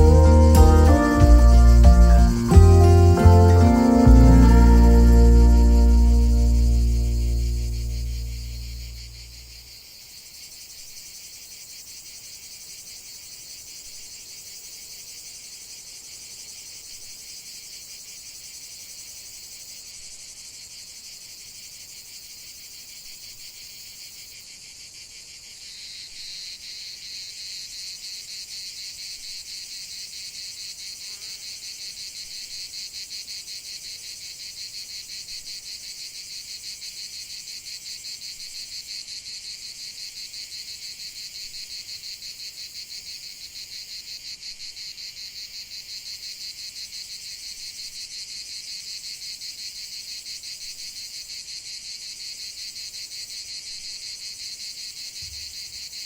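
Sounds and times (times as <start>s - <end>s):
crickets chirping: 0.0s - 56.0s
rapidly pulsing insect trill: 3.3s - 56.0s.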